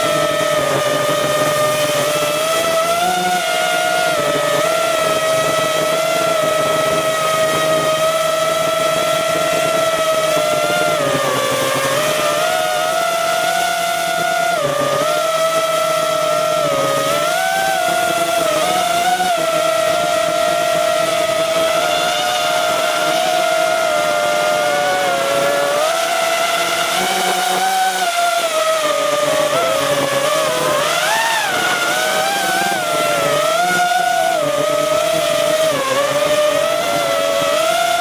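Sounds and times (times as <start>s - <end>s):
quadcopter propellers whining: 0.0s - 38.0s.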